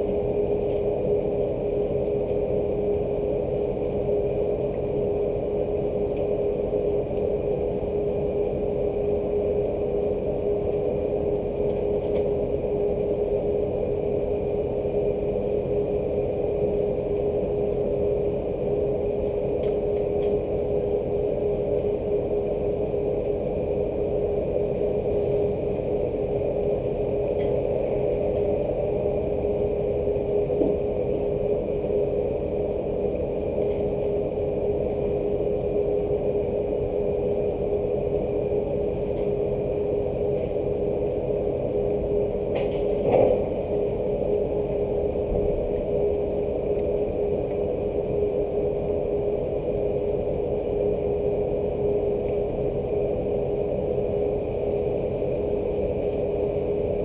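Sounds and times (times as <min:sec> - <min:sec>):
faint high whine: 0:00.0 - 0:57.0
steady mechanical hum: 0:00.0 - 0:57.0.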